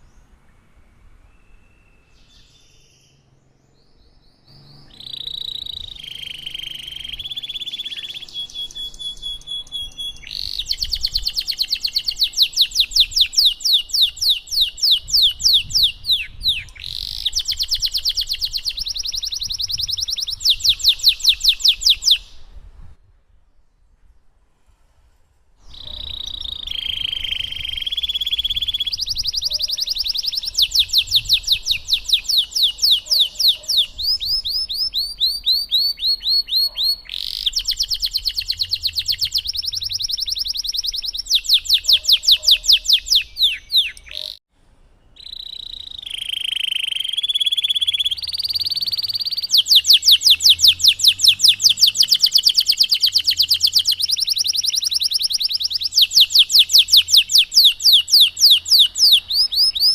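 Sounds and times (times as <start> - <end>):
canary singing: 4.0 - 22.5, 25.7 - 44.4, 45.2 - 59.9.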